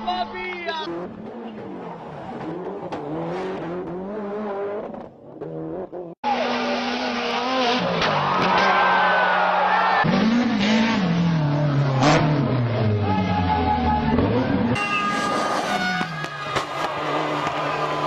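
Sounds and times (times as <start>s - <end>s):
loud car running hard: 0.0s - 18.0s
rally car engines revving: 0.0s - 18.0s.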